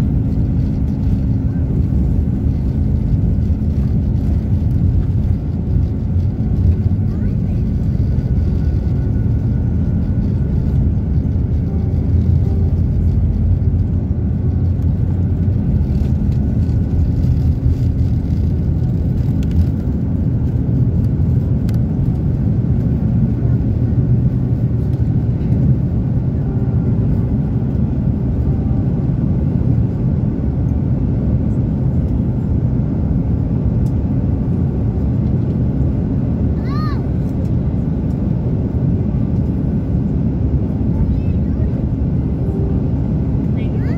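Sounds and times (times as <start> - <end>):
airliner engine rumble: 0.0 - 43.9.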